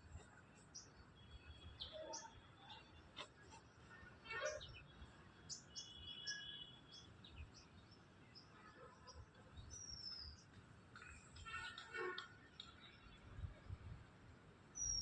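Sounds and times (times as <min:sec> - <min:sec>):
small birds chirping: 0:00.1 - 0:13.5, 0:14.7 - 0:15.0.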